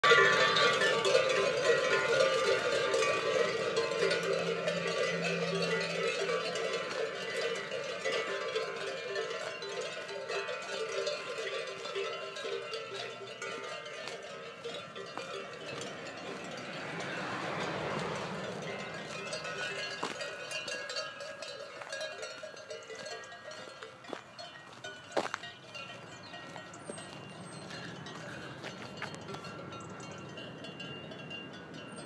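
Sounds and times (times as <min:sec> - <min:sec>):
cow bells jangling: 0:00.0 - 0:32.0.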